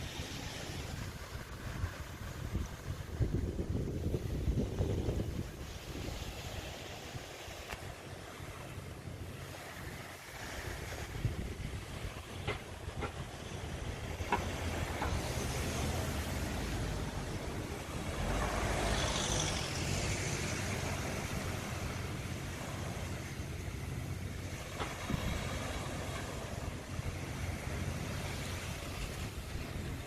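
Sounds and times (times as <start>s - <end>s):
wind buffeting microphone: 0.0s - 8.0s, 9.6s - 30.0s
surf: 0.0s - 30.0s.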